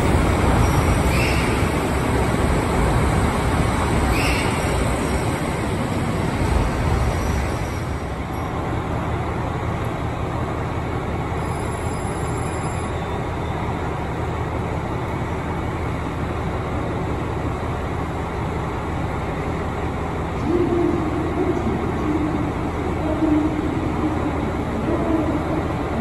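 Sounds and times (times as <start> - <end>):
electric train low hum: 0.0 - 26.0.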